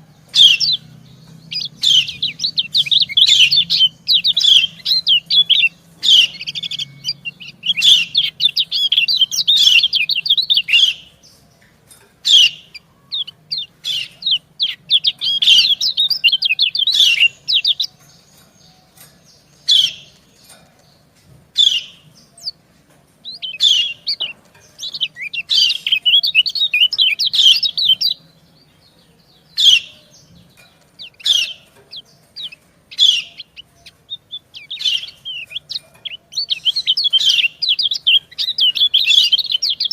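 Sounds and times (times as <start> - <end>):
birds twittering rapidly: 0.0 - 39.9.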